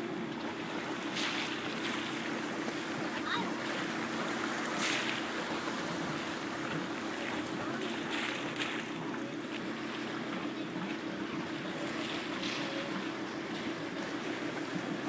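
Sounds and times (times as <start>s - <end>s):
boat engine humming: 0.0s - 15.0s
water splashes: 0.0s - 15.0s
water washing against hull: 0.0s - 15.0s.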